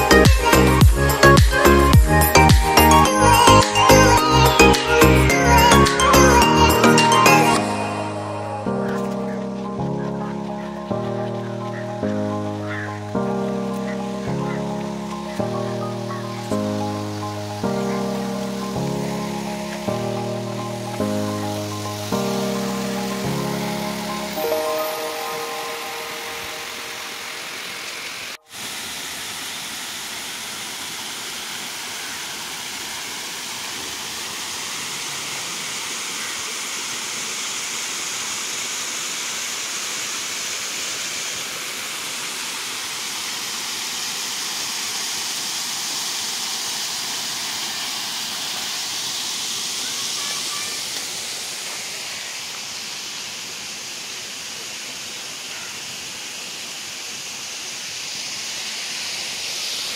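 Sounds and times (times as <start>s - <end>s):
waterfall rushing into stream: 0.0s - 59.9s.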